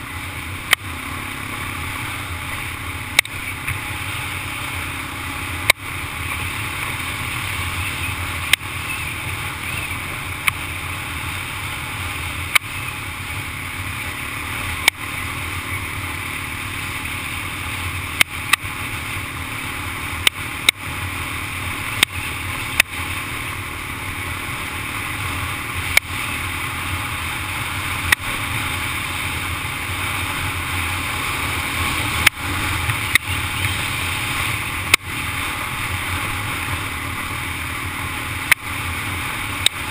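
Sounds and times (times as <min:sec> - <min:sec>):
atv engine drone: 0:00.0 - 0:39.9.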